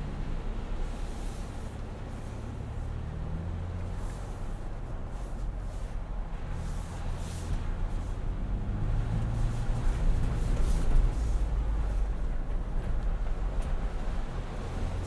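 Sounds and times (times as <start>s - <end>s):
engine hum inside cabin: 0.0s - 15.0s.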